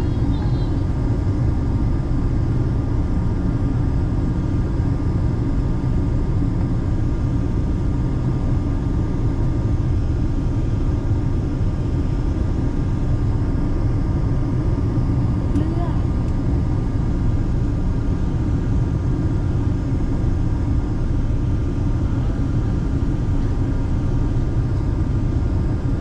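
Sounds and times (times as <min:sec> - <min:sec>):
airliner cabin engine rush: 0:00.0 - 0:26.0.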